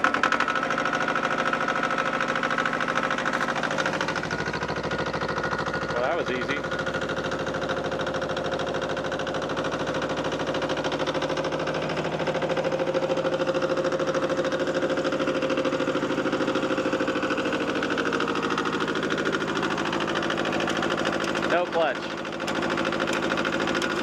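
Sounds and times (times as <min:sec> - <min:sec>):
diesel tractor engine idling: 0:00.0 - 0:24.0.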